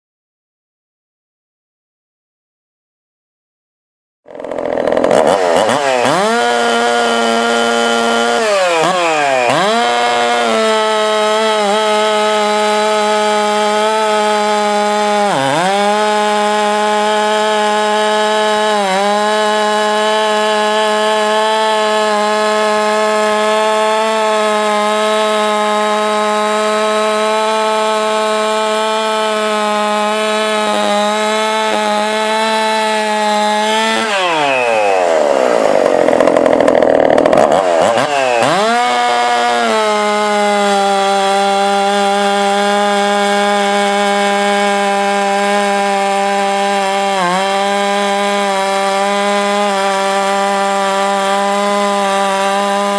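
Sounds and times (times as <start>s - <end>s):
chainsaw at full throttle: 4.3s - 52.9s.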